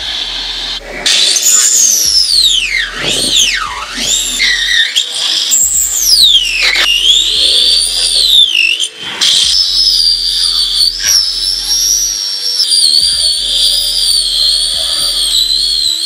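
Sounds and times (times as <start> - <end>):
whistle-like electronic tone: 0.0 - 16.0.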